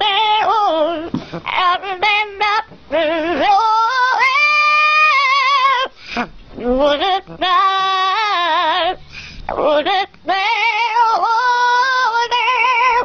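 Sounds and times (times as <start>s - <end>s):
parrot singing: 0.0s - 5.9s, 6.6s - 13.0s.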